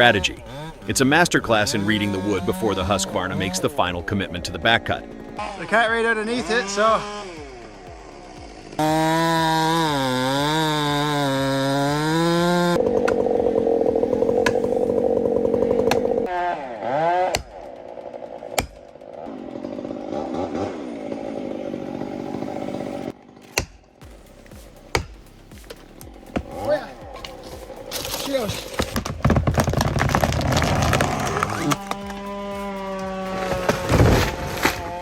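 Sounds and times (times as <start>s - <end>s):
chainsaw cutting: 0.0s - 35.0s.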